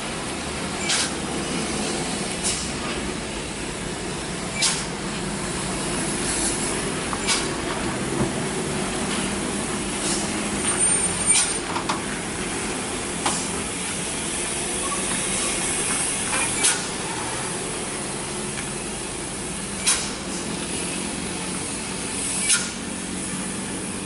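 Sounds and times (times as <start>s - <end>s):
heavy truck engine running: 0.0s - 24.0s.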